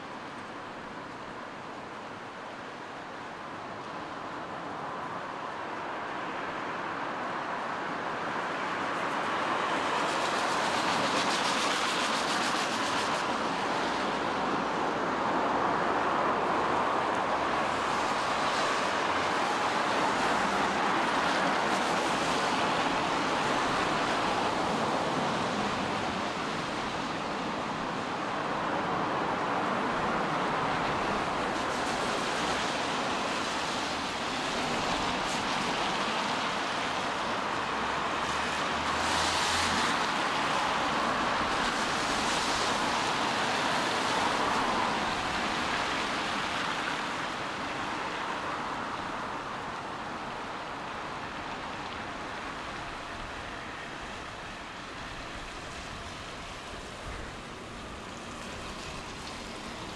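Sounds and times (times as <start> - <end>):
tyres hissing on wet road: 0.0 - 59.9
rain falling: 8.3 - 59.9.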